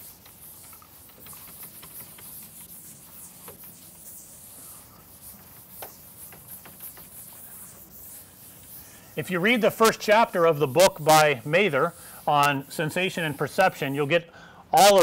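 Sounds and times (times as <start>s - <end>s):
eraser brushing chalkboard: 0.0s - 14.2s.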